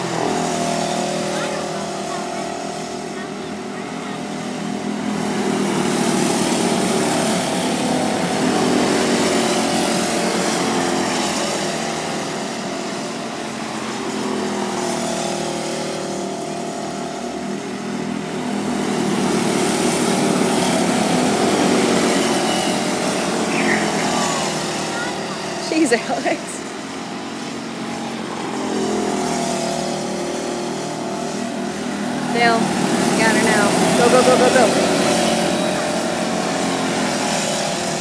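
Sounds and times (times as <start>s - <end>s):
small race car engines passing: 0.0s - 38.0s.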